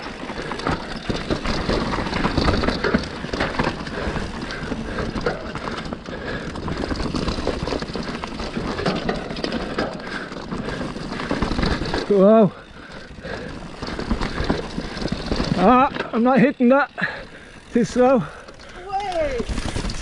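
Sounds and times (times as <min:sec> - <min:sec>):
bike knocks and rattles: 0:00.0 - 0:20.0
bike tyres on dirt and rocks: 0:00.0 - 0:20.0.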